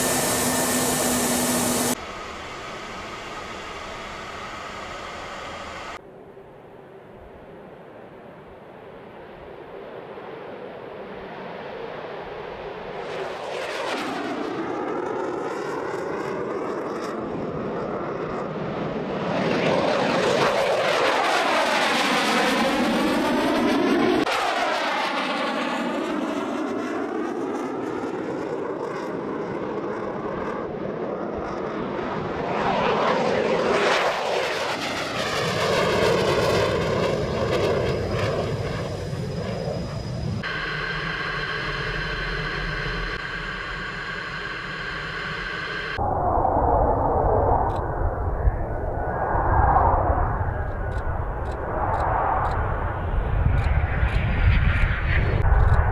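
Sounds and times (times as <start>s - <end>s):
fighter jets flying past: 8.9s - 55.9s.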